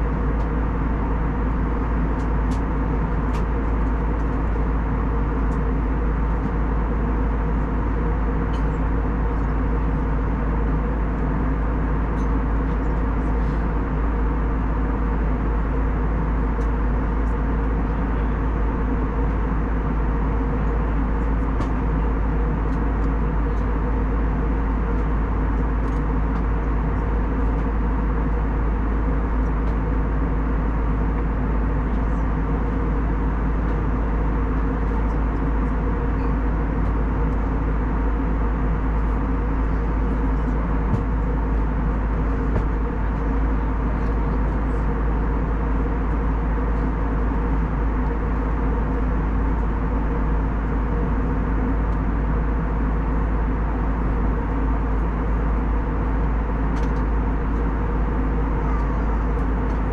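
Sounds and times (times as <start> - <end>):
jet engine noise in cabin: 0.0 - 59.9
steady hum: 0.0 - 59.9.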